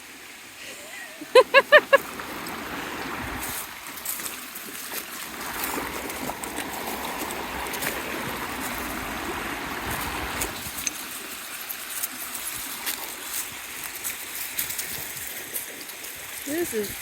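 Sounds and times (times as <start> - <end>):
creek water rushing: 0.0 - 17.0
light crackles: 0.6 - 17.0.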